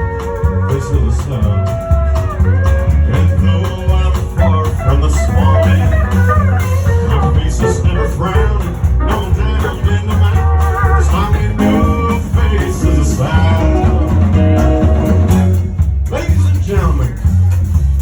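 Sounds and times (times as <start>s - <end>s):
electric guitar lead: 0.0s - 16.8s
bass: 0.0s - 18.0s
drums steady beat: 0.0s - 18.0s.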